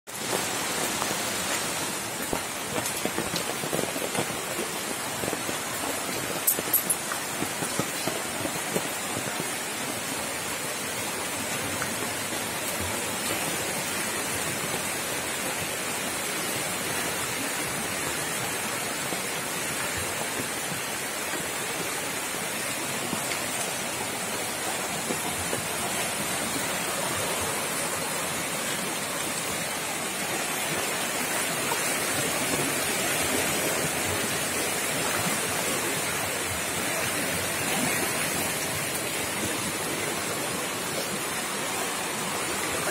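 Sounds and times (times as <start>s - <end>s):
river water rushing: 0.1s - 42.9s.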